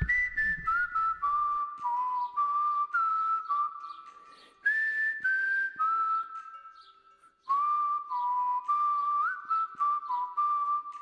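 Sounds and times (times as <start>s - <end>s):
whistled melody: 0.0s - 11.0s.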